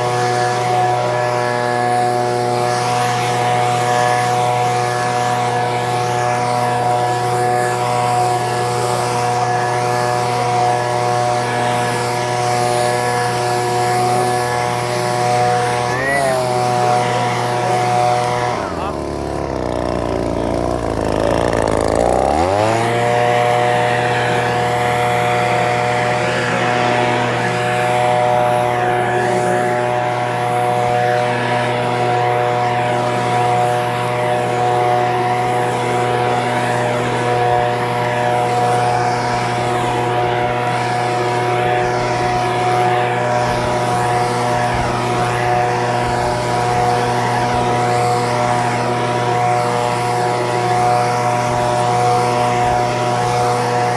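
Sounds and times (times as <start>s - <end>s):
leaf blower engine revving: 0.0s - 53.9s.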